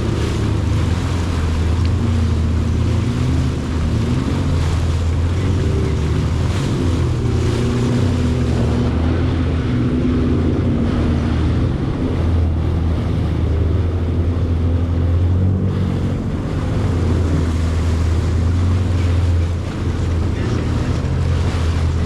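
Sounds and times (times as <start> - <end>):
jet ski engine: 0.0 - 22.0
water rushing: 0.0 - 22.0.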